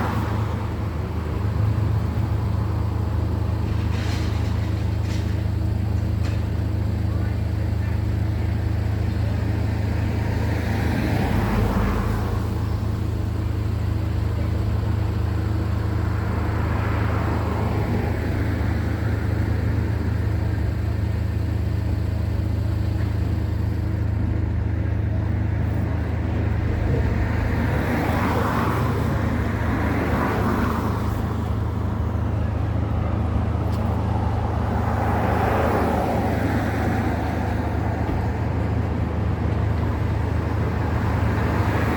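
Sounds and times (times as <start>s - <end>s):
engine droning: 0.0s - 41.9s
traffic passing by: 0.0s - 41.9s.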